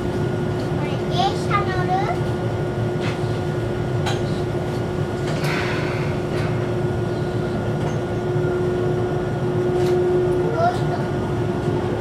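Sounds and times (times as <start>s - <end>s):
tram interior hum and rumble: 0.0s - 12.0s.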